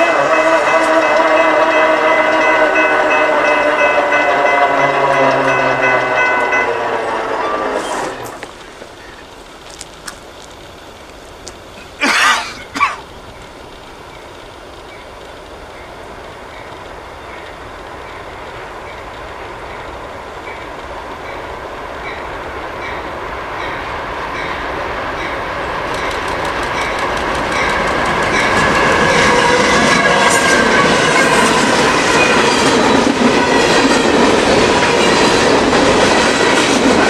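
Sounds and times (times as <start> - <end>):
wheels clicking over rails: 0.0 - 12.0, 12.8 - 37.0
diesel locomotives rumbling: 0.0 - 37.0.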